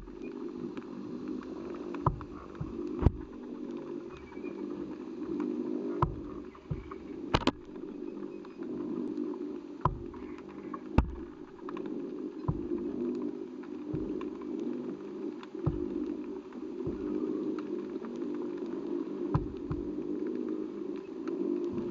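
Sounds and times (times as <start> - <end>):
muffled underwater hum: 0.0 - 21.9
sharp clicks: 0.1 - 21.9.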